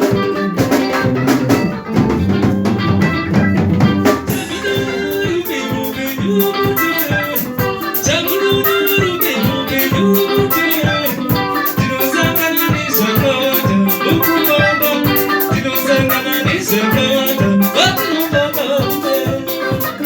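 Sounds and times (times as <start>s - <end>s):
drums: 0.0s - 20.0s
electric guitar lines: 0.0s - 20.0s.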